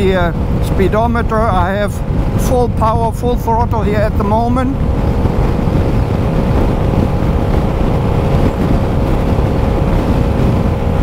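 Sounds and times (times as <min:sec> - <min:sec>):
scooter engine drone: 0:00.0 - 0:11.0
wind rushing over microphone: 0:00.0 - 0:11.0.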